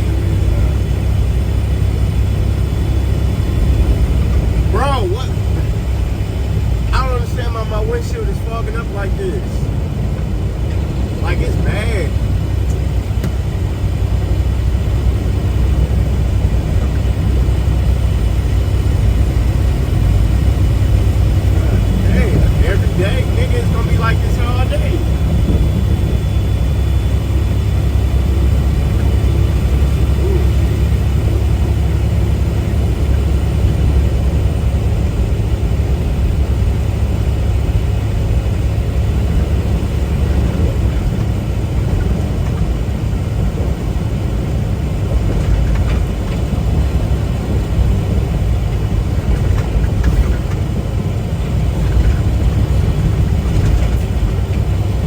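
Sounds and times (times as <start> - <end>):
road noise: 0.0 - 55.0
truck diesel engine: 0.0 - 55.0.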